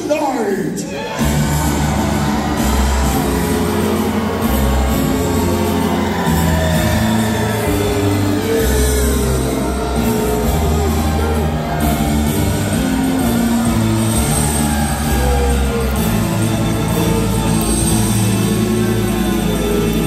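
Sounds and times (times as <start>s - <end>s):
loud music with heavy bass: 1.1s - 20.0s.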